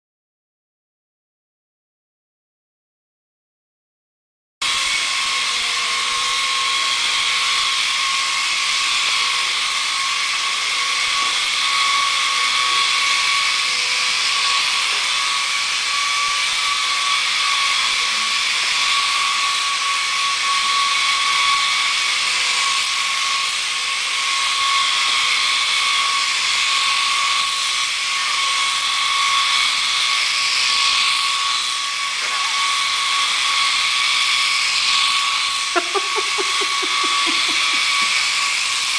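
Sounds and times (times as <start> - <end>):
toy helicopter motor whine: 4.6 - 38.9.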